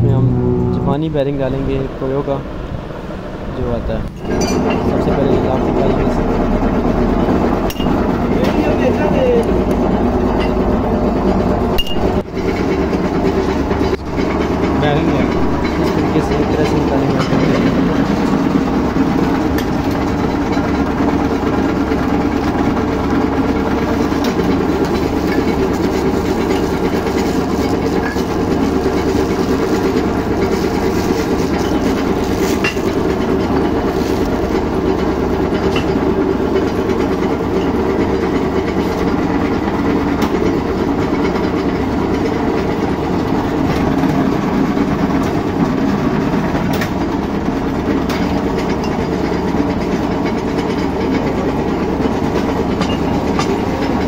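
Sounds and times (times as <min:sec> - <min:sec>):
machinery drone: 0:00.0 - 0:49.2.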